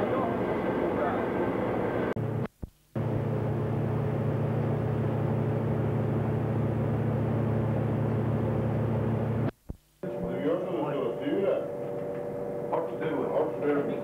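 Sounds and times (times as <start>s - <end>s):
ship machinery droning: 0.0s - 14.0s.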